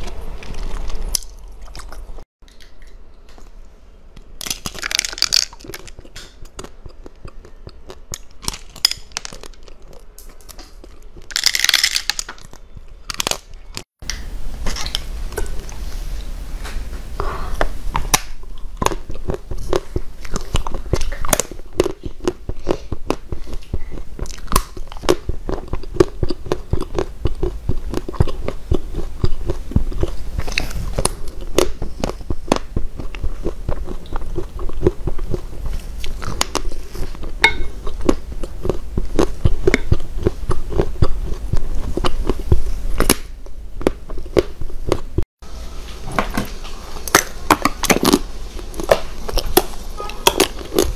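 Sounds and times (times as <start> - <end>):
chewing gummy candy: 0.0 - 3.5, 4.4 - 11.5, 18.4 - 45.2, 47.1 - 50.9.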